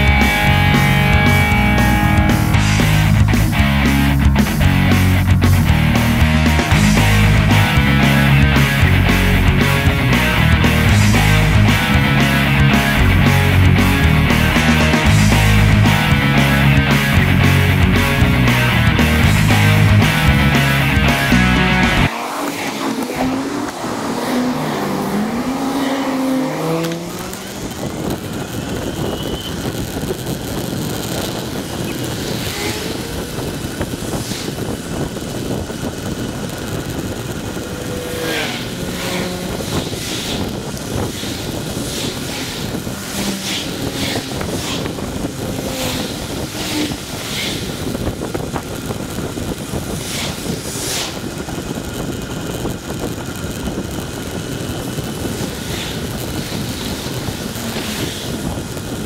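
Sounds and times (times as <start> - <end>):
cars passing: 0.0 - 59.0
road rumble: 0.0 - 59.0
wind: 0.0 - 59.0.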